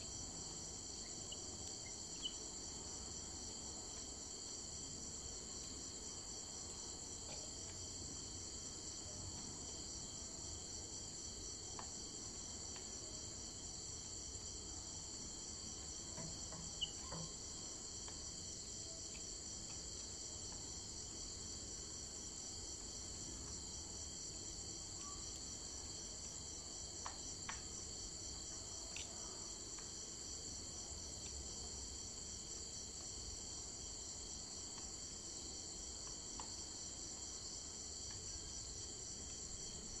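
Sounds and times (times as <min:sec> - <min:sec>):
insects trilling: 0:00.0 - 0:09.1, 0:09.8 - 0:40.0.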